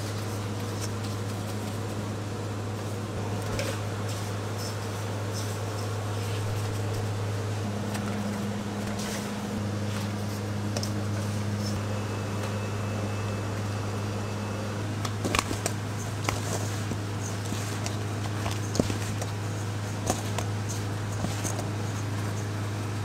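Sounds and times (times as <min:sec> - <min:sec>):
kitchen machinery humming: 0:00.0 - 0:23.0.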